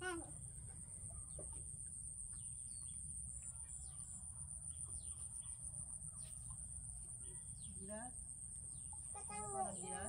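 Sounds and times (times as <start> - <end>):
steady high-pitched hiss: 0.0 - 10.0.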